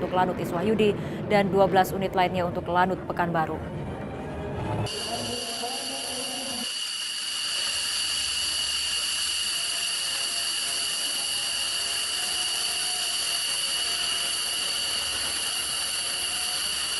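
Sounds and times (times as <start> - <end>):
jet engine whine: 3.1 - 16.9.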